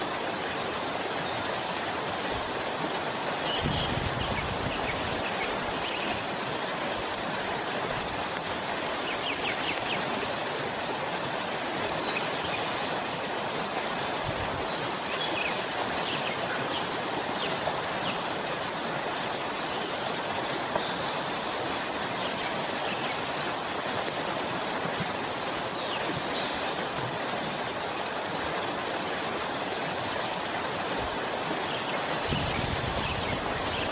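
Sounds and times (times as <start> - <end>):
waterfall splashing and rushing: 0.0 - 33.9.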